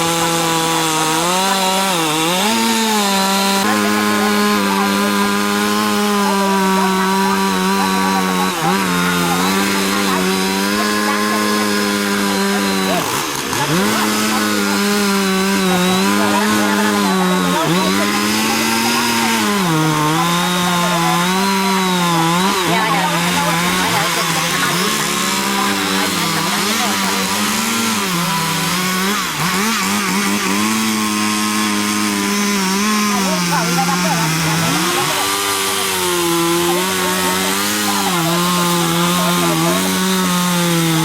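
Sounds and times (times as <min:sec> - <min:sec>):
chainsaw engine running hard: 0:00.0 - 0:41.0.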